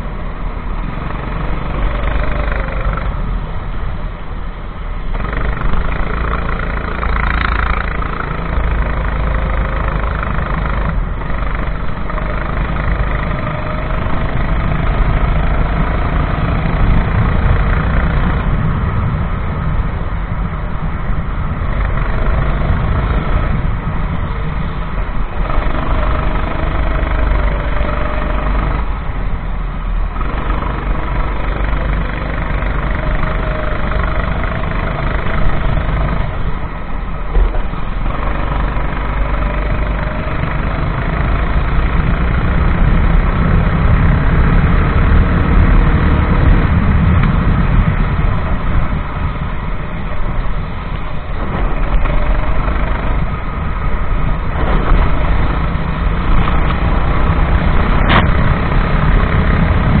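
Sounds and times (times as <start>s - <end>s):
kart engine revving: 0.0s - 3.5s, 5.0s - 60.0s
rushing wind noise: 0.0s - 60.0s.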